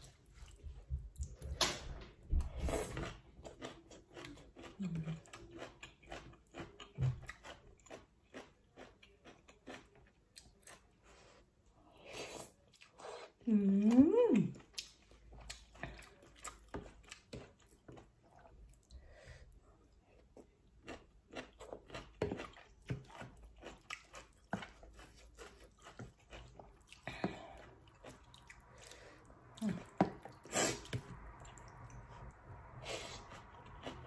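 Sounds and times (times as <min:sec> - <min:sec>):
person chewing noodles: 0:02.4 - 0:13.4, 0:14.5 - 0:34.0.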